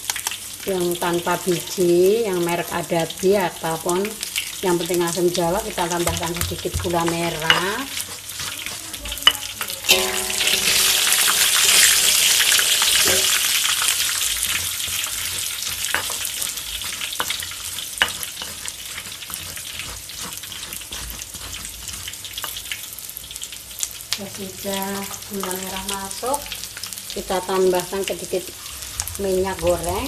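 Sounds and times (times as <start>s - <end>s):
peanuts sizzling in oil: 0.0s - 30.0s.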